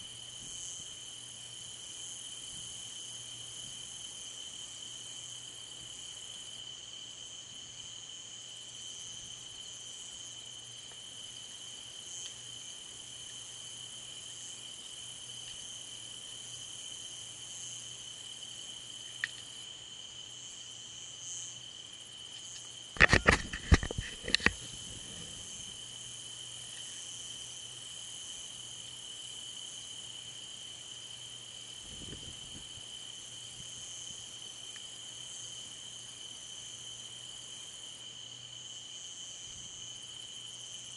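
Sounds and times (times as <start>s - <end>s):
night insects chirring: 0.0s - 40.9s.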